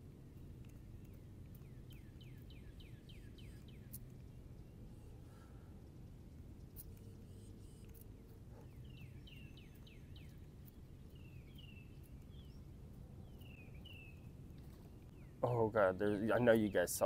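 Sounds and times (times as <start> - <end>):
low outdoor background hum: 0.0 - 17.0
songbird chirping: 0.0 - 17.0.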